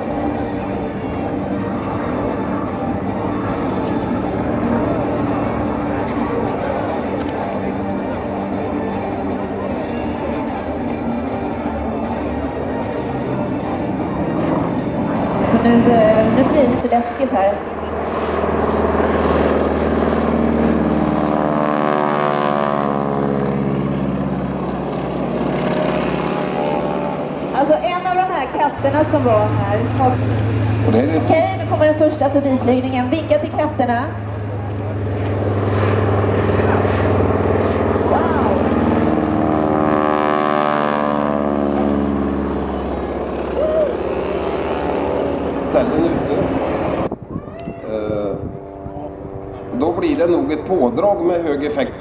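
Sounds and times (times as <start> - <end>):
biplane engine and propeller passing: 0.0 - 52.0.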